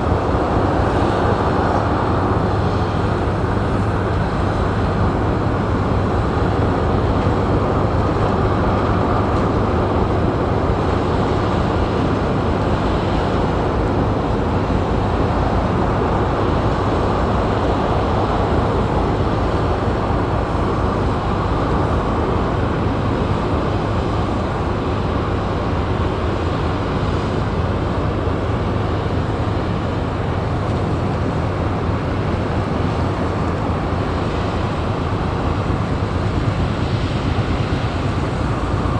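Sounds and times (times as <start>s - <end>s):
ferry engines running: 0.0s - 38.9s.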